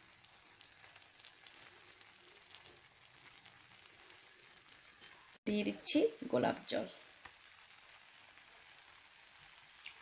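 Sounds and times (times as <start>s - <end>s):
faint hiss: 0.0s - 10.0s
fried onions crackling on rice: 0.0s - 10.0s.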